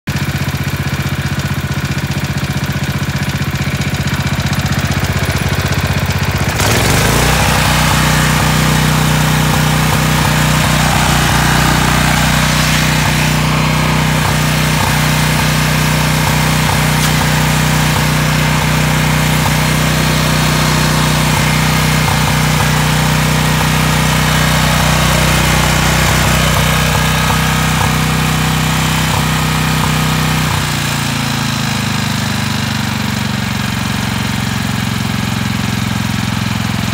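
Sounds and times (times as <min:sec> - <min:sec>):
engine idling: 0:00.1 - 0:36.9.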